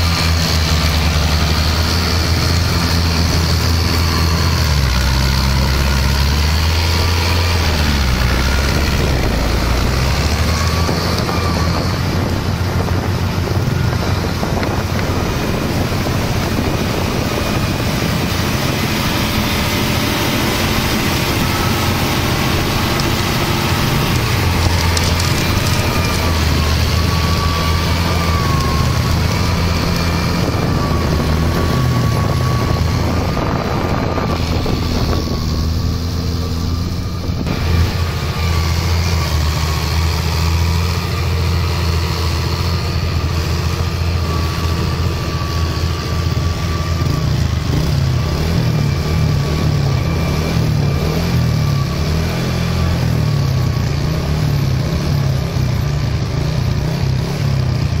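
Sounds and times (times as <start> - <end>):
thin steady whine: 0.0 - 56.8
tractor diesel engine under load: 0.0 - 58.0.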